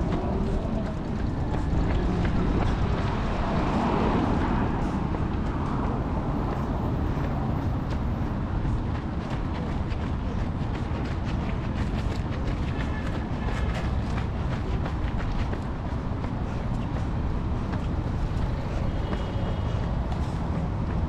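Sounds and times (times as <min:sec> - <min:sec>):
city street traffic: 0:00.0 - 0:21.0
vehicle passing by: 0:00.0 - 0:21.0.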